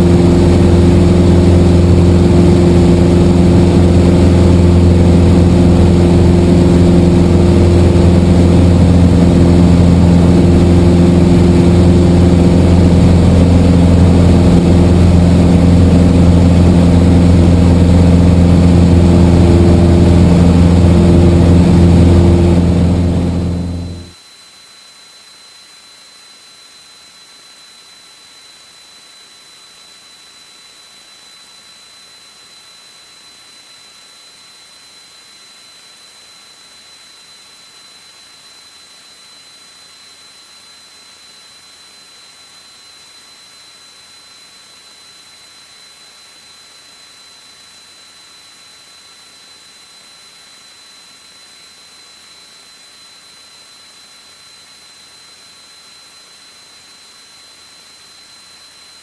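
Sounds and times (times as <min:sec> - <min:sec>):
faint hiss: 0:00.0 - 0:59.0
high-pitched whine: 0:00.0 - 0:59.0.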